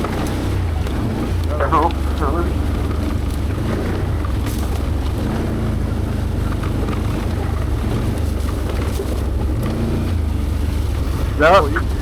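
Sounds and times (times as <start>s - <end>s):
atv engine running: 0.0s - 12.0s
clicks and rattles: 0.0s - 12.0s.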